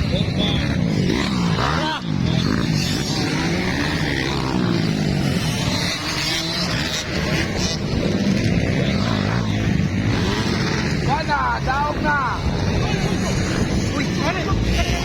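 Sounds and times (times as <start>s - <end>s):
motocross engines revving: 0.0s - 15.0s.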